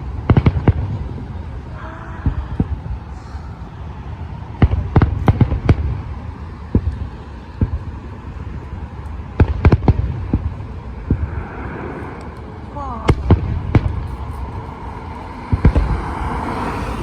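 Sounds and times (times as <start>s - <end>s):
fireworks booming: 0.0s - 17.0s
steady low rumble: 0.0s - 17.0s.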